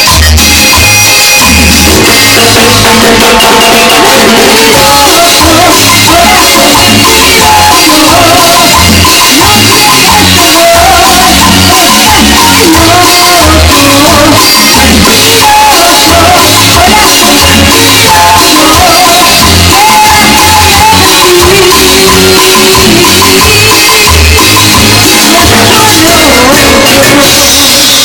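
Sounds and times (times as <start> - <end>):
band playing loud music: 0.0 - 28.0
drum kit beat: 0.0 - 28.0.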